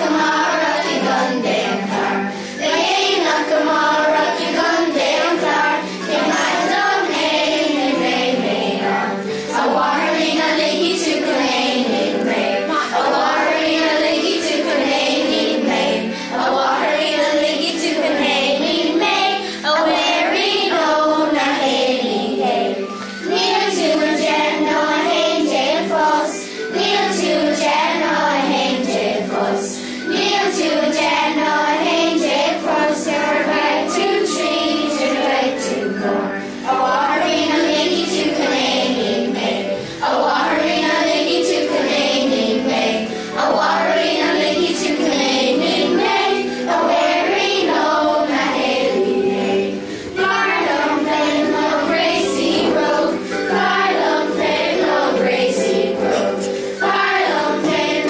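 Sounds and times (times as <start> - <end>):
children singing a song: 0.0 - 58.0
instrumental backing music: 0.0 - 58.0.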